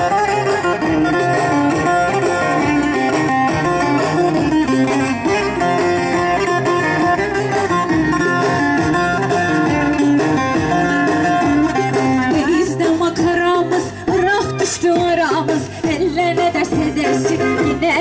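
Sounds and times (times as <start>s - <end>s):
lute dance tune over loudspeakers: 0.0s - 18.0s.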